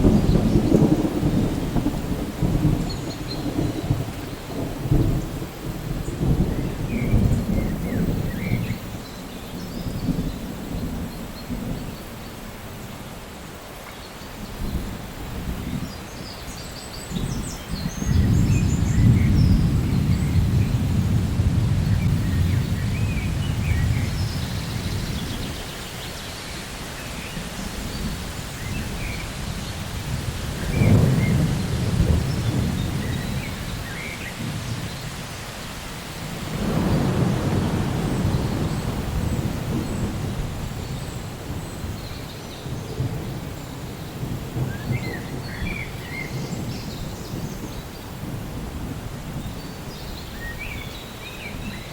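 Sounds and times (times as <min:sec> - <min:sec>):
thunder rumbling: 0:00.0 - 0:12.3, 0:17.1 - 0:50.6
steady rain: 0:00.0 - 0:51.9.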